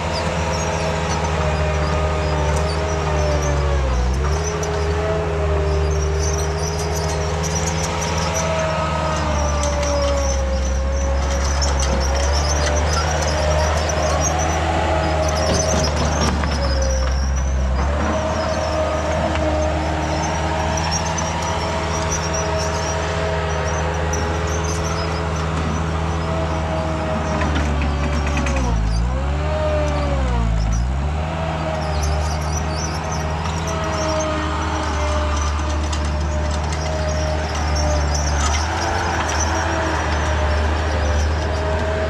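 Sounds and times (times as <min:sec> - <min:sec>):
heavy machine engine running: 0:00.0 - 0:42.0.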